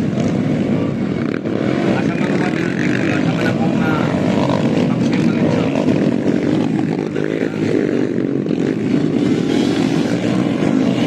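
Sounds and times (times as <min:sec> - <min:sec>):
motocross engines revving: 0:00.0 - 0:11.0.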